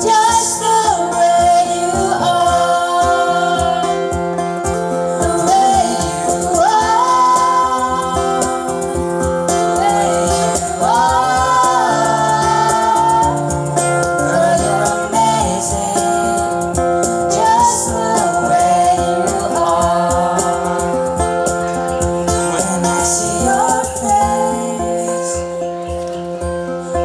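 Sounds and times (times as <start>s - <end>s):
slow pop ballad: 0.0s - 27.0s.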